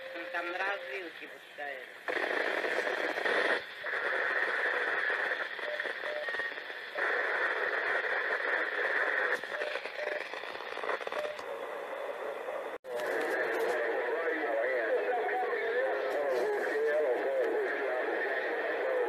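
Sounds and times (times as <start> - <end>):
faint radio signals: 0.0 - 19.0
radio static hiss: 0.0 - 19.0.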